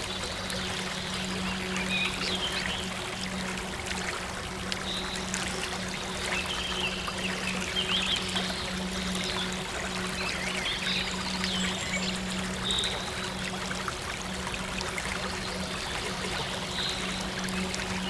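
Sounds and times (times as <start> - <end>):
water running and trickling: 0.0 - 18.0.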